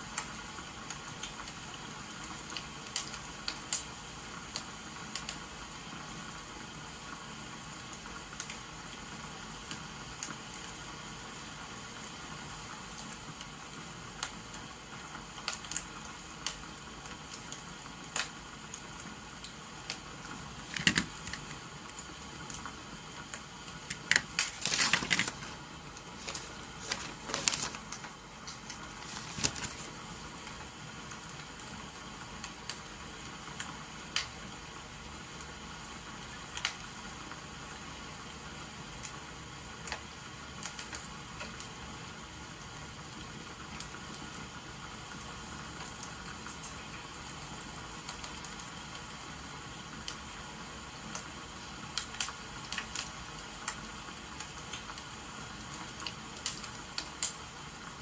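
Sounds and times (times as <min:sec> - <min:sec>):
rain hissing: 0:00.0 - 0:58.0
wood fire crackling: 0:00.0 - 0:58.0.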